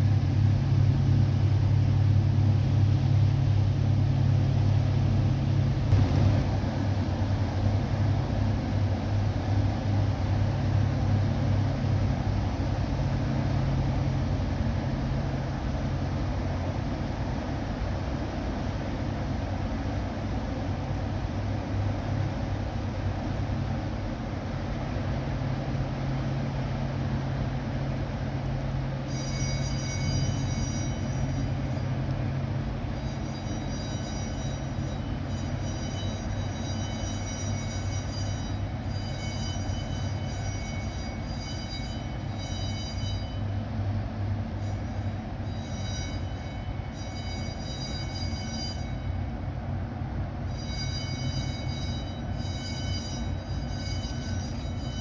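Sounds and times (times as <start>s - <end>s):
high multi-tone whine: 0.0s - 55.0s
ship diesel engines droning: 0.0s - 55.0s.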